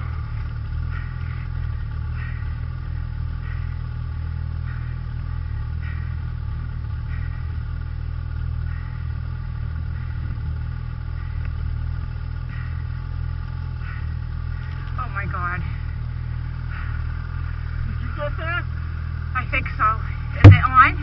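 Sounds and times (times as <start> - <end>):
snowmobile engine idling: 0.0 - 21.0.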